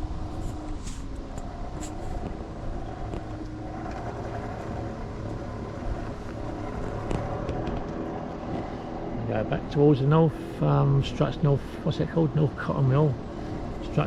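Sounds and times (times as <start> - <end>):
mobility scooter motor hum: 0.0 - 14.0.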